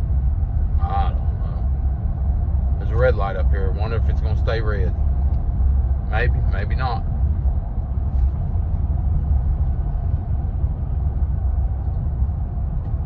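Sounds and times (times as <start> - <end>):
pickup truck driving rumble: 0.0 - 13.0
tyre and road noise: 0.0 - 13.0.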